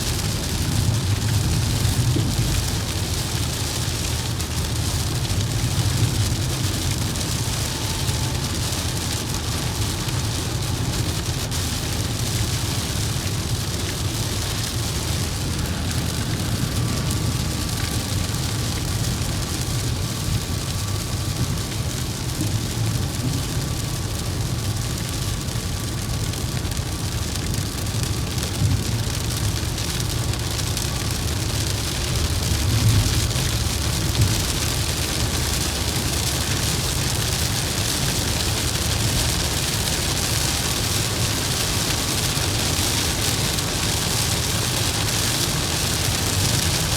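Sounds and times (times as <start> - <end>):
rain hissing on vehicle: 0.0 - 46.9
tyres and engine rumbling: 0.0 - 46.9.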